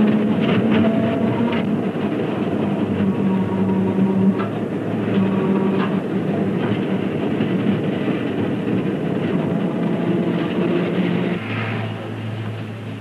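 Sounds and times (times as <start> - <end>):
tram motor hum: 0.0 - 13.0
tram wheels clicking over track: 0.0 - 13.0.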